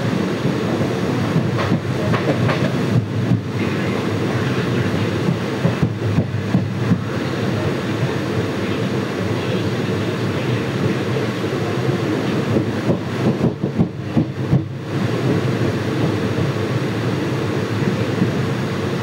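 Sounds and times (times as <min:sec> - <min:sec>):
rushing air: 0:00.0 - 0:19.0
train wheels rumbling on rails: 0:00.0 - 0:19.0.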